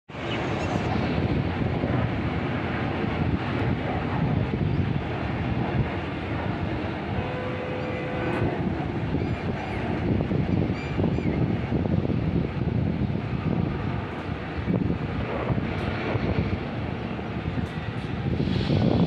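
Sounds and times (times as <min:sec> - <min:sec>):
jet airliner engines rumbling: 0:00.1 - 0:19.0.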